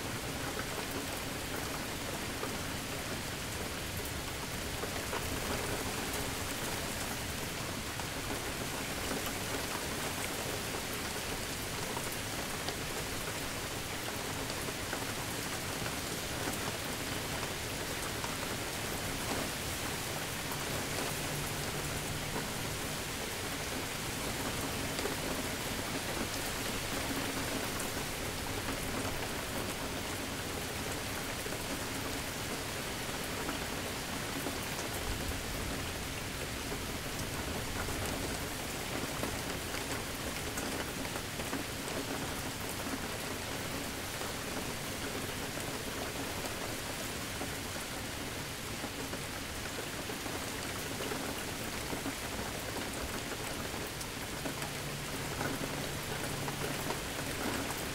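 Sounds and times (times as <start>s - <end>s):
steady rain pattering: 0.0s - 57.9s.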